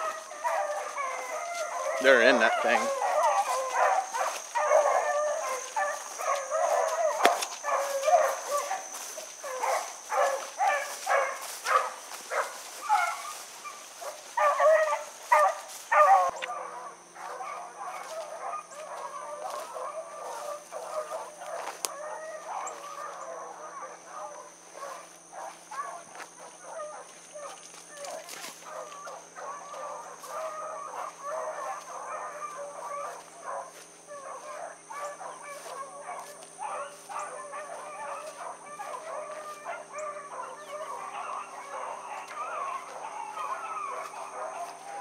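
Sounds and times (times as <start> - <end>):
hounds baying: 0.0 - 45.0.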